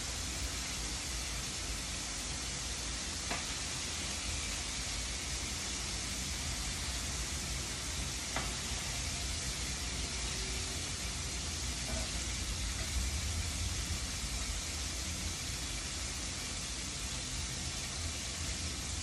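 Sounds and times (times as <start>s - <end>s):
chicken wings sizzling in hot oil: 0.0s - 19.0s.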